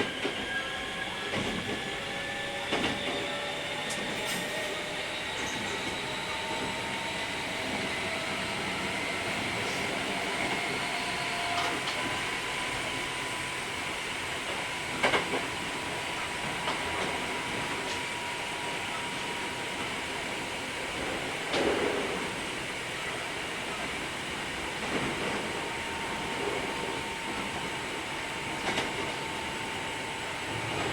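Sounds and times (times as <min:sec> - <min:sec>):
electric train rolling: 0:00.0 - 0:30.9.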